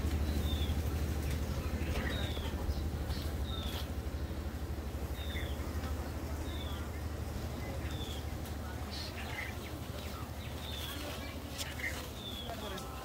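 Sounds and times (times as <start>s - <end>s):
low rumble: 0.0s - 12.4s.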